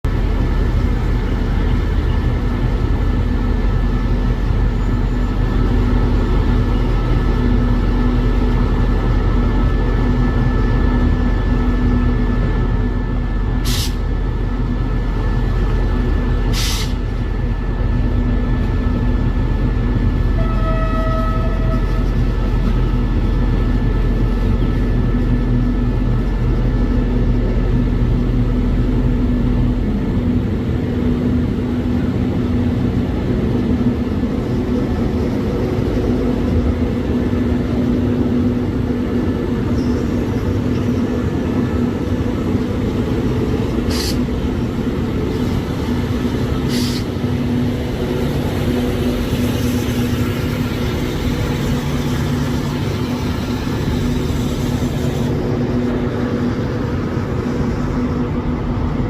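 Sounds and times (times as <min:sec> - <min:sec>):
diesel train engine rumble: 0:00.0 - 0:59.0.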